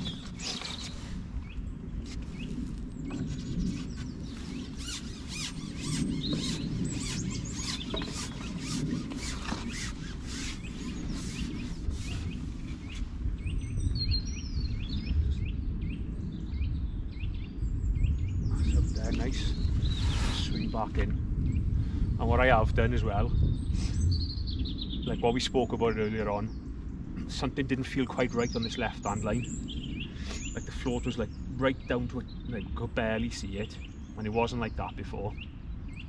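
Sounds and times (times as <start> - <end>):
small birds chirping: 0.0 - 36.0
wind on microphone: 0.0 - 36.0.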